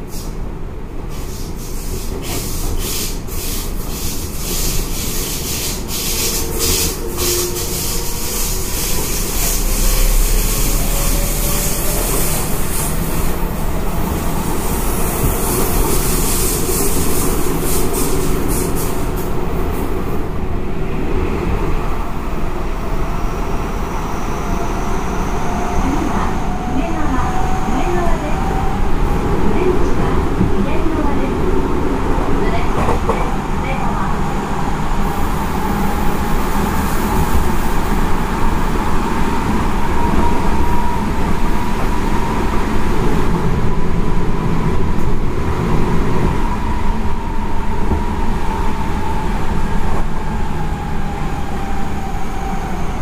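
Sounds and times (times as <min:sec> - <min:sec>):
train rolling rumble: 0:00.0 - 0:53.0.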